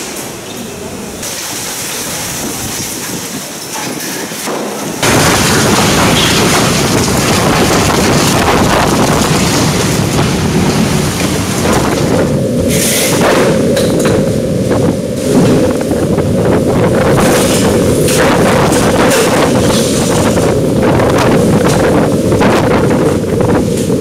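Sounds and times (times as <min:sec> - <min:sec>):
strong wind and rain: 0:00.0 - 0:24.0.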